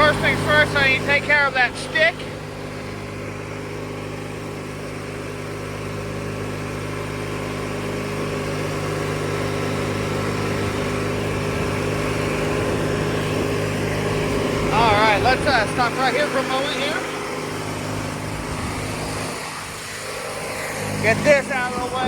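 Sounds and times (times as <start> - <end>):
riding lawnmower engine running: 0.0 - 22.0.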